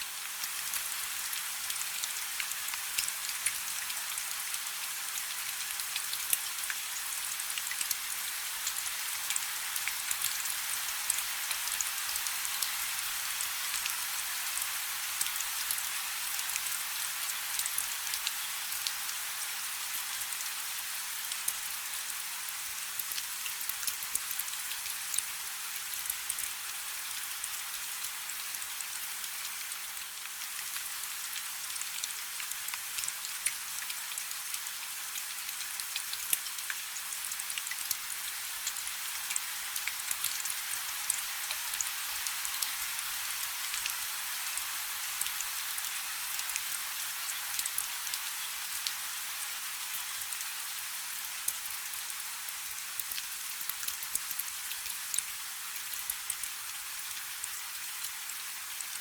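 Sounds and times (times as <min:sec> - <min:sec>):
light rain: 0:00.0 - 0:59.0.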